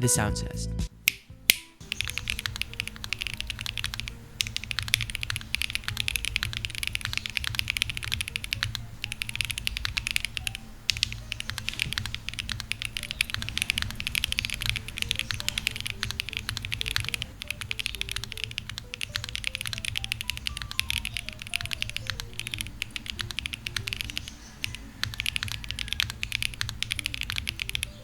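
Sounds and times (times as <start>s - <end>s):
background music: 0.0s - 28.0s
mechanical keyboard typing: 1.1s - 28.0s.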